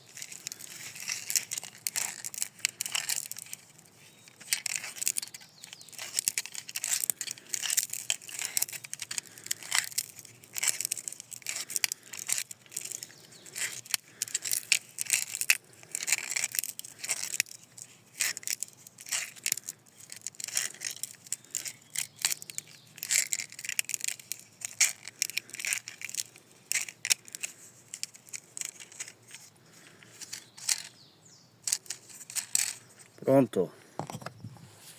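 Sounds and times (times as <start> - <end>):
metal spring clicking and scraping: 0.0 - 31.0, 31.6 - 33.2.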